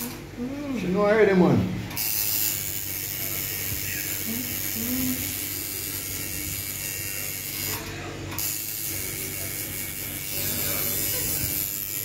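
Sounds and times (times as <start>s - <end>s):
tattoo machine buzzing: 0.0s - 0.2s, 1.9s - 12.0s.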